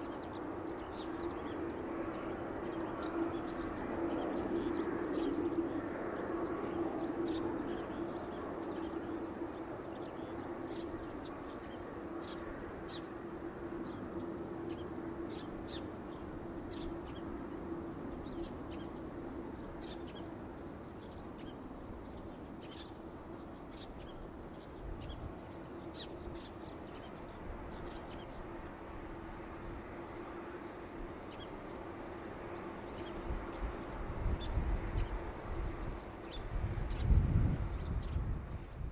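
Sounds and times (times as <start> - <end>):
birds chirping: 0.0 - 38.2
distant jet engine rumble: 0.0 - 38.9.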